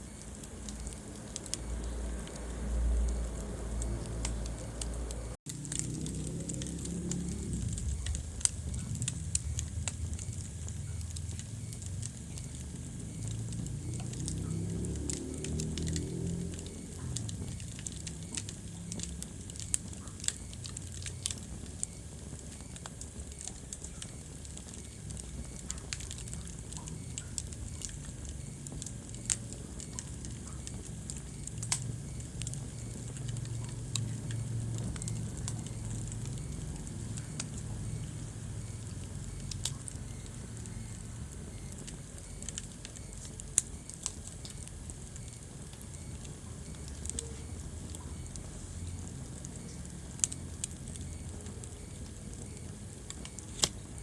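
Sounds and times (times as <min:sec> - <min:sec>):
steady low rumble: 0:00.0 - 0:54.0
wood fire crackling and popping: 0:00.0 - 0:54.0.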